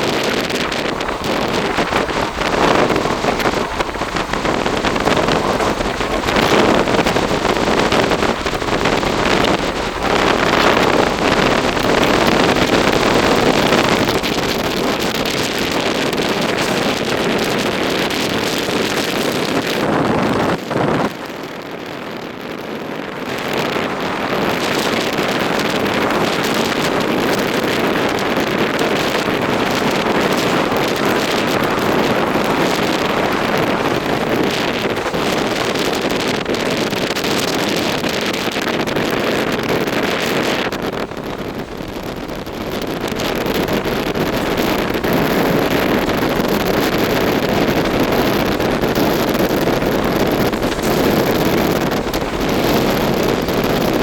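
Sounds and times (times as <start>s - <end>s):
train wheels on track: 0.0s - 54.0s
wind buffeting microphone: 0.0s - 54.0s.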